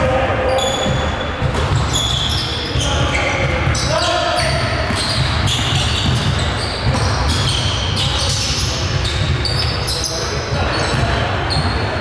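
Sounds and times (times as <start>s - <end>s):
sneakers squeaking: 0.0s - 12.0s
basketball bouncing on court: 0.8s - 9.7s, 10.5s - 11.9s.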